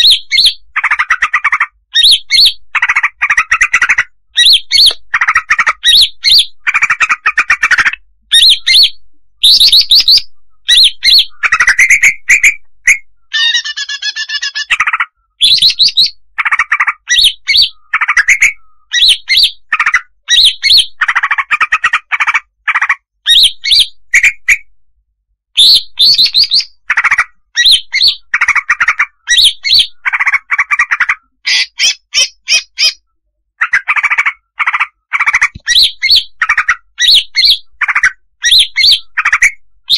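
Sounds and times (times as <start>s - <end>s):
bird chattering and chirping: 0.0s - 24.6s, 25.6s - 39.9s.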